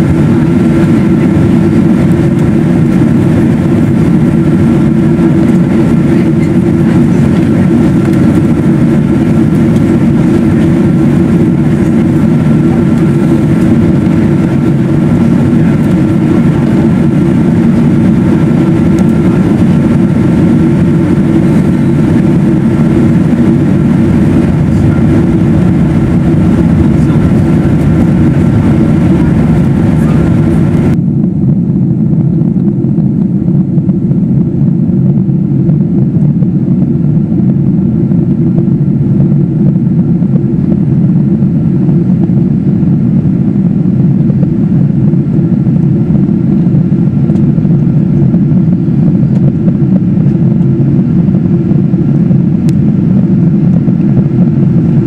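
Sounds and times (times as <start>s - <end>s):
airliner cabin airflow and engines: 0.0s - 55.0s
faint steady whine: 0.0s - 55.0s.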